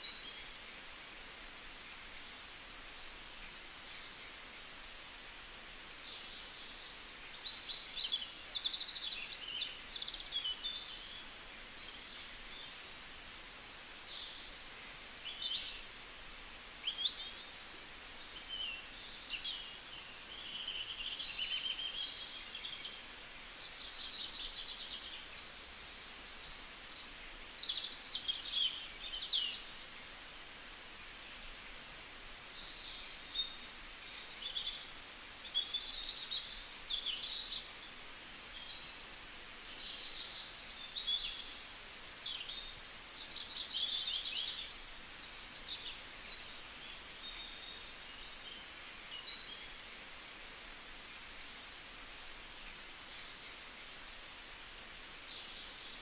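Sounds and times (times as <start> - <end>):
small birds chirping and twittering: 0.0 - 56.0
steady hiss: 0.0 - 56.0.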